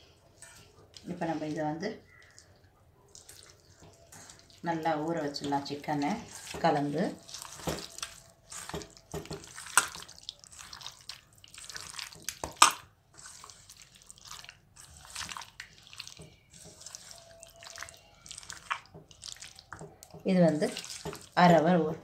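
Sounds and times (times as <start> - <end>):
wet squelching of hand mixing: 0.0 - 22.0.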